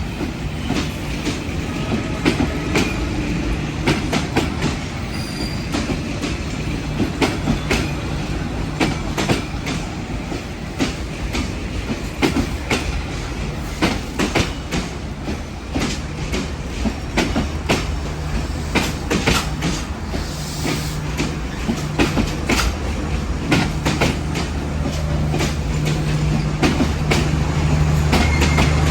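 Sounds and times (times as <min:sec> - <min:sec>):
train wheels clicking over rail joints: 0:00.1 - 0:28.9.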